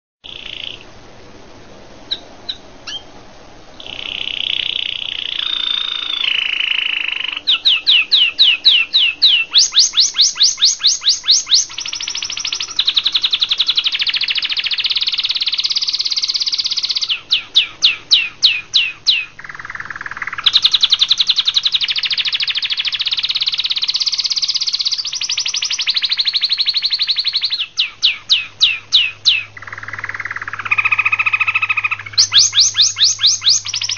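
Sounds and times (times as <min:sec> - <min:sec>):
canary singing: 0:00.2 - 0:01.0, 0:02.0 - 0:03.2, 0:03.8 - 0:33.9.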